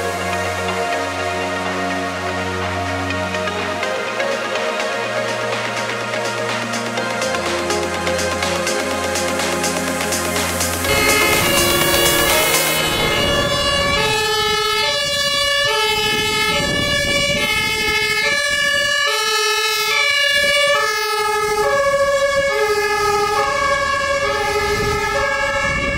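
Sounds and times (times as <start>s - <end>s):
two-tone ambulance siren: 0.0s - 25.9s.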